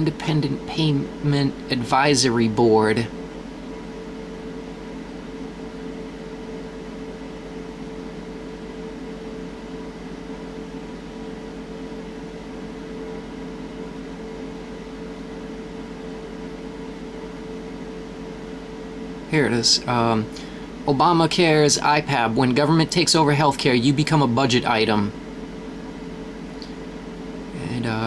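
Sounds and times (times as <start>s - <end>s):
low mains hum: 0.0s - 28.0s
machine hum with fixed tones: 0.0s - 28.0s.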